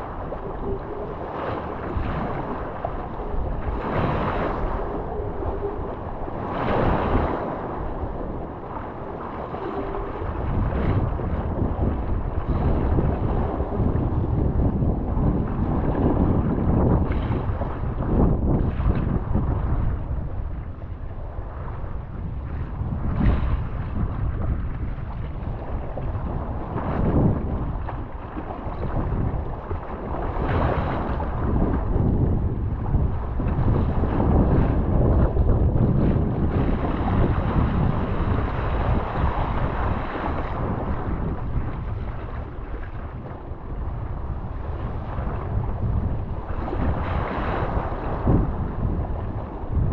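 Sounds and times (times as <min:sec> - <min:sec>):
water splashing against kayak hull: 0:00.0 - 0:20.9, 0:22.5 - 0:49.9
wind buffeting microphone: 0:00.0 - 0:49.9.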